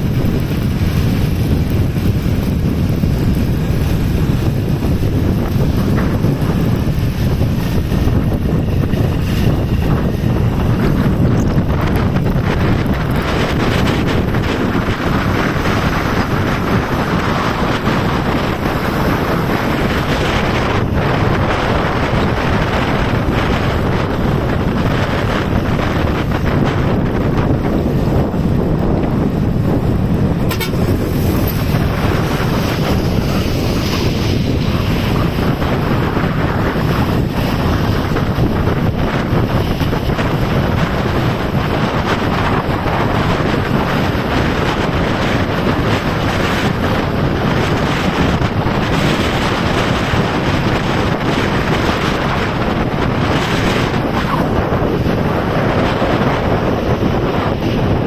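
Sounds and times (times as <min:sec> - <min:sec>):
road and traffic noise: 0:00.0 - 0:58.0
wind buffeting microphone: 0:00.0 - 0:58.0.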